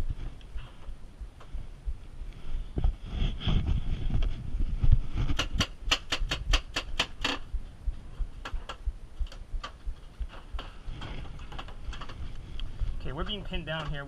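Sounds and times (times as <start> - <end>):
low thumps: 0.0 - 14.0.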